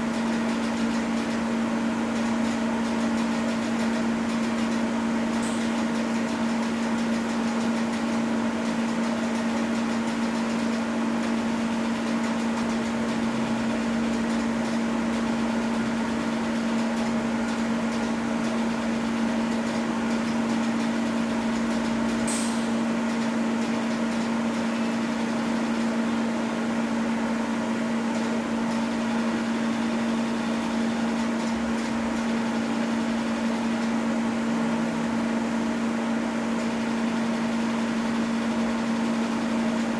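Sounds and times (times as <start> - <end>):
welding workstation humming: 0.0 - 39.9.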